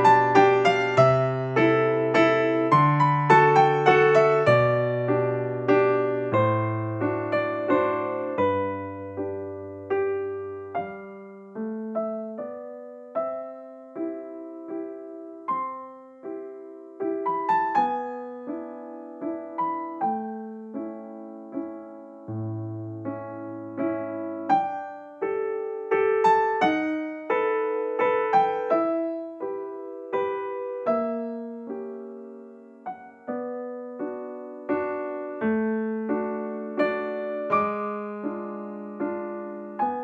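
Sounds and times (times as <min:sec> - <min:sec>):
gentle piano melody: 0:00.0 - 0:40.0.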